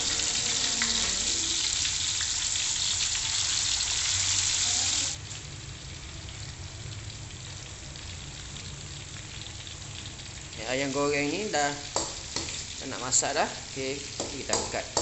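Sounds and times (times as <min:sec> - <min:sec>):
chicken deep-frying in hot oil: 0:00.0 - 0:15.0.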